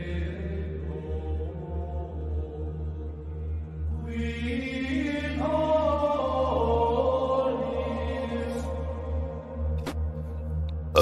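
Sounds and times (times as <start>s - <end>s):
choir chanting: 0.0s - 9.8s.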